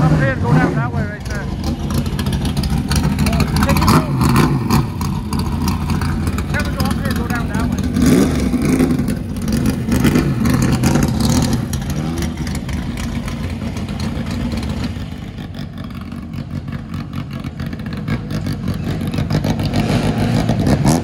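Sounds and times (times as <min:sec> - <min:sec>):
another car engine revving: 0:00.0 - 0:21.0
race car engine revving: 0:00.0 - 0:21.0.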